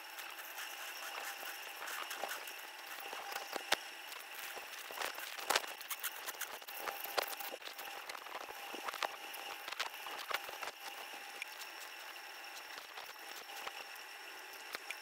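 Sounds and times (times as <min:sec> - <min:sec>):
dental scaler whine: 0:00.0 - 0:15.0.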